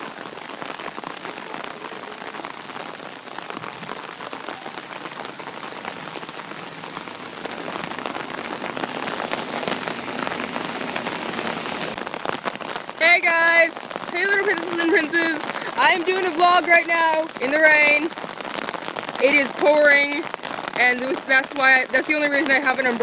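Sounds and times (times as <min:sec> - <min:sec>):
heavy rain: 0:00.0 - 0:23.0
raindrops ticking nearby: 0:00.0 - 0:23.0.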